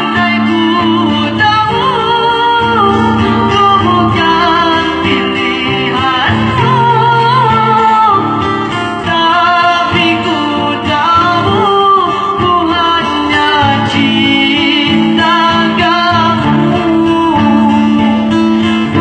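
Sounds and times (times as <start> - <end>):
acoustic guitar: 0.0 - 19.0
woman singing into a microphone: 0.0 - 19.0.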